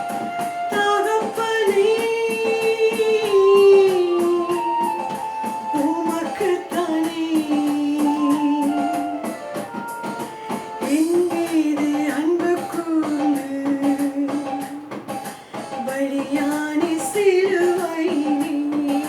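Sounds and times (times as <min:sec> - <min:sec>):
guitar: 0:00.0 - 0:19.0
person singing: 0:00.0 - 0:19.0
steady drum beat: 0:00.0 - 0:19.0.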